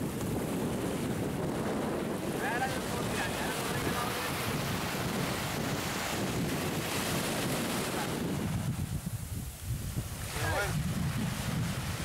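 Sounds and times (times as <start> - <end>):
small surf breaking on beach: 0.0 - 12.0
wind buffeting microphone: 0.0 - 12.0.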